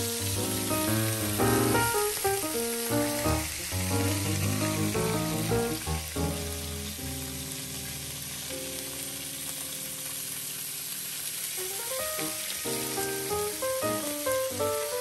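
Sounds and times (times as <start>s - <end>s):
clams sizzling on a griddle: 0.0s - 15.0s.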